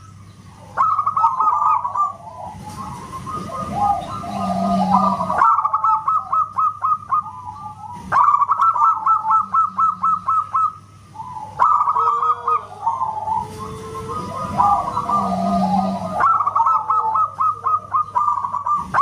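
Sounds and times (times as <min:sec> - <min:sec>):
dove singing whistled notes: 0:00.0 - 0:19.0
faint steady hum: 0:00.0 - 0:19.0.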